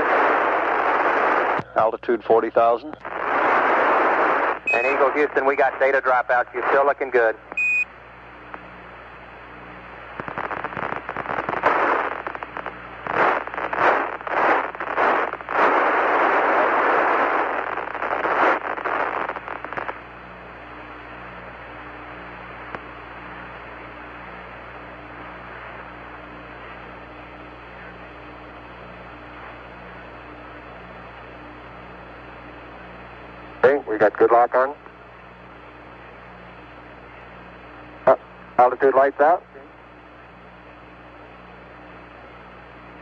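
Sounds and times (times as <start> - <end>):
crackling radio static: 0.0 - 43.0
steady radio hiss: 0.0 - 43.0.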